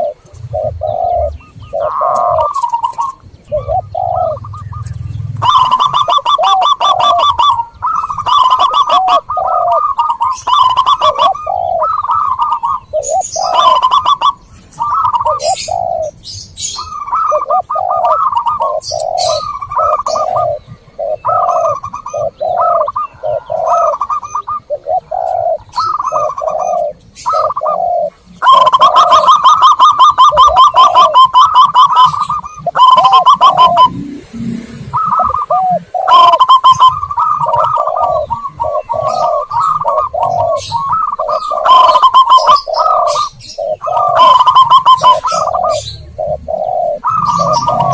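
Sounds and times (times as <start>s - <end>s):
fast rattling trills: 0.0s - 20.6s, 28.4s - 47.9s
doves cooing: 0.0s - 47.9s
small birds chirping: 0.0s - 47.9s.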